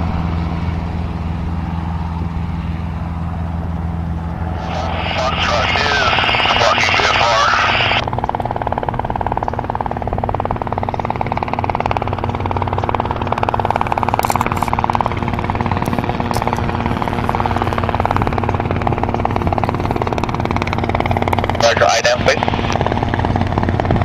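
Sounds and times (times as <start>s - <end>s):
helicopter flying: 0.0s - 24.0s
rotor pulsing: 0.0s - 24.0s.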